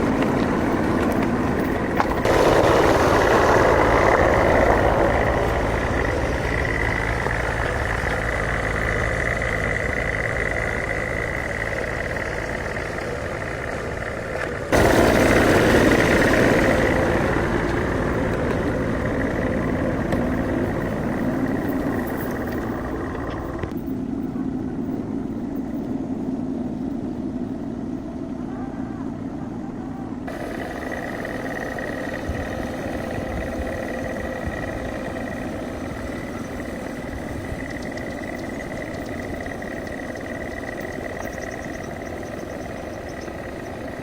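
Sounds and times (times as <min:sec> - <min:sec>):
motor vehicle running: 0:00.0 - 0:25.9, 0:30.2 - 0:44.0.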